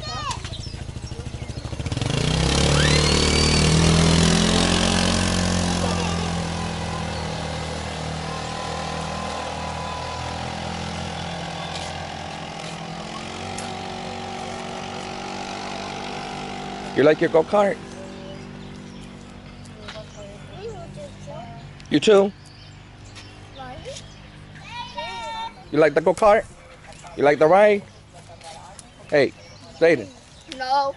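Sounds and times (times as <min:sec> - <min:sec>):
go-kart engine driving past: 0:00.0 - 0:28.1.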